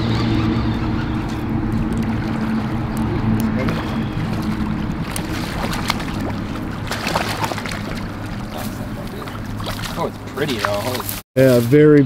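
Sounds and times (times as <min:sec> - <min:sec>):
fish splashing and thrashing: 0:00.0 - 0:11.2
low hum: 0:00.0 - 0:11.2.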